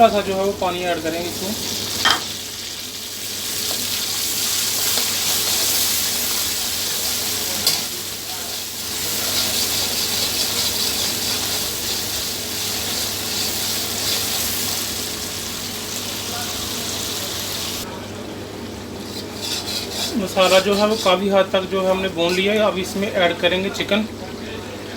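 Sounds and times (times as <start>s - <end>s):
vegetables sizzling in a pan: 0.0s - 17.9s, 18.7s - 23.2s.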